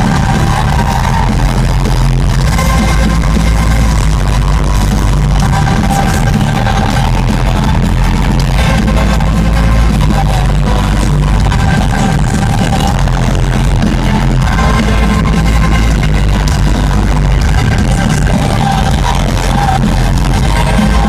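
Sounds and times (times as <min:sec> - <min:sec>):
live band music with heavy bass: 0:00.0 - 0:21.0.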